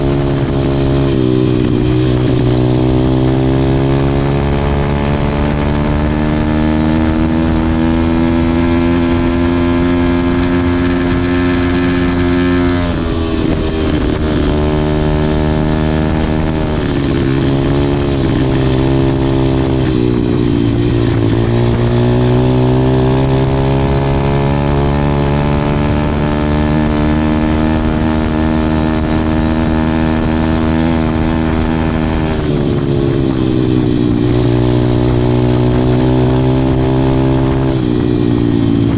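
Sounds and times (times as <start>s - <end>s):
motorbike engine running: 0.0s - 38.9s.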